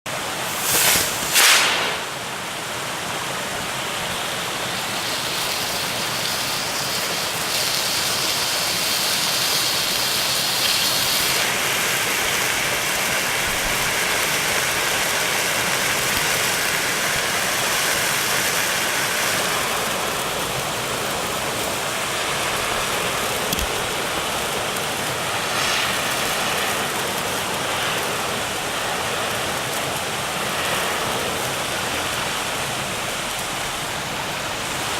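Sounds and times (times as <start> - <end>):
firework flares hissing: 0.1 - 34.9
loud firework bursts: 0.2 - 34.9.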